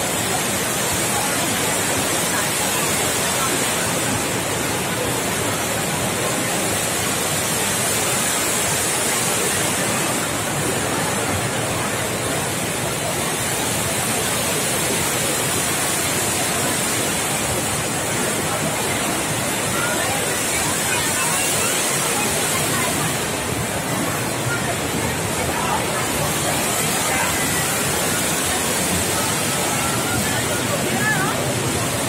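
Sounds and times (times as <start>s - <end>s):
water falling into pool: 0.0s - 32.0s.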